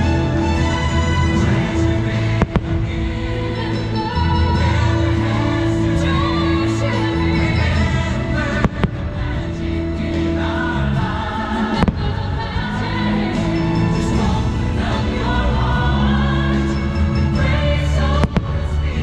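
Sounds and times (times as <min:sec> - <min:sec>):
choir singing with bass: 0:00.0 - 0:19.0.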